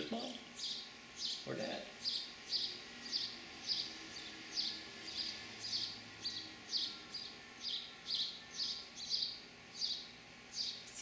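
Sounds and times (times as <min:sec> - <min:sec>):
sparrow chirping: 0:00.1 - 0:11.0.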